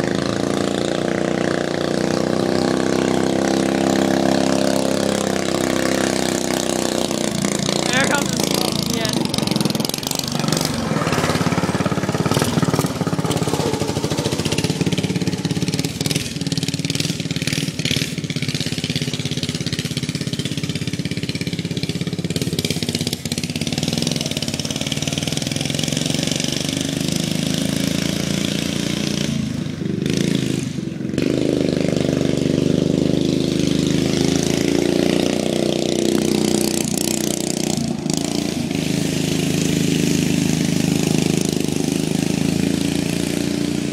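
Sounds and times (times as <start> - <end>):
small lawnmower engine running: 0.0 - 43.9.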